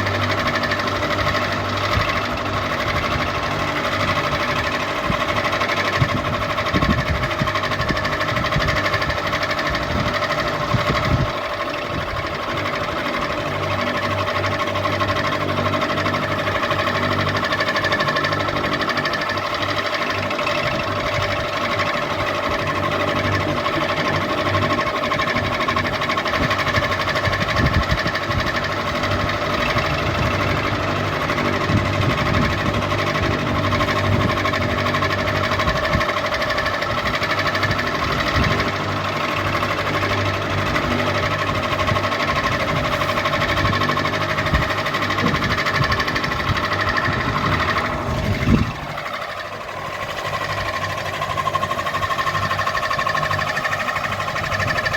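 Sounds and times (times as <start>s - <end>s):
ceiling fan motor hum: 0.0s - 54.9s
knocking rumble: 0.0s - 54.9s.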